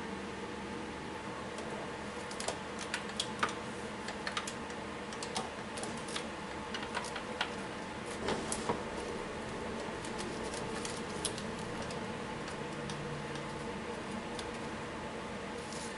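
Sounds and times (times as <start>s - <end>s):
steady background hum: 0.0s - 15.9s.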